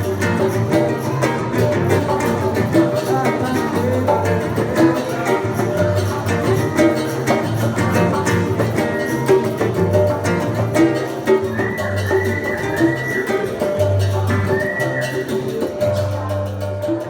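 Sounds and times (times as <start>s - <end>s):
repeating high tone: 0.0s - 15.7s
acoustic guitar playing: 0.0s - 17.0s
hand drum percussion: 0.0s - 17.0s.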